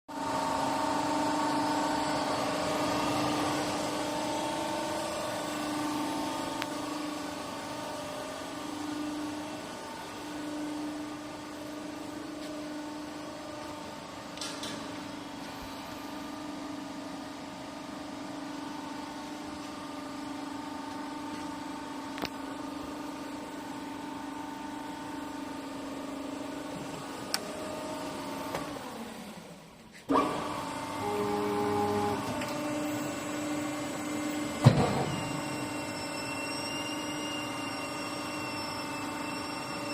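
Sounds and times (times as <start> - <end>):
electric motor and pump humming: 0.1 - 39.9.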